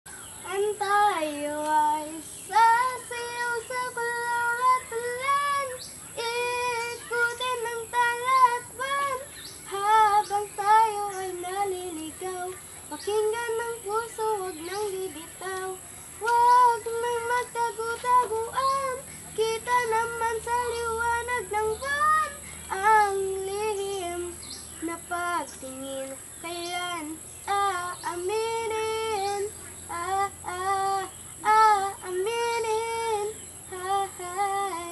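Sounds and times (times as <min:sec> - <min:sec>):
child singing: 0:00.4 - 0:34.9.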